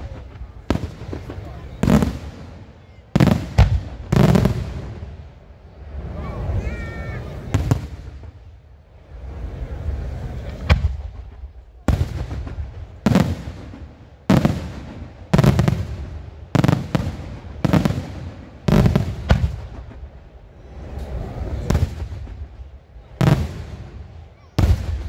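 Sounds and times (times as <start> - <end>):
fireworks bangs with echo: 0.0 - 5.3, 7.2 - 8.6, 9.6 - 25.0.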